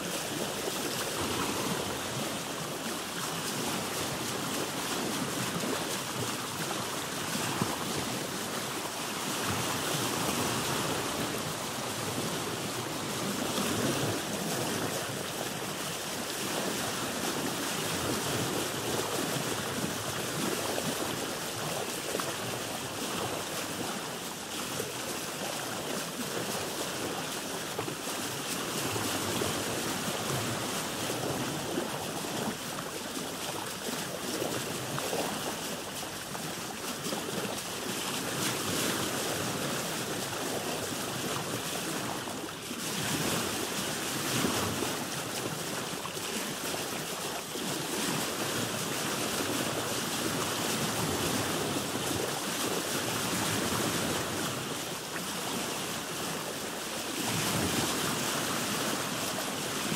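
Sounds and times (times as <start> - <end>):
water lapping against boat hull: 0.0 - 59.9.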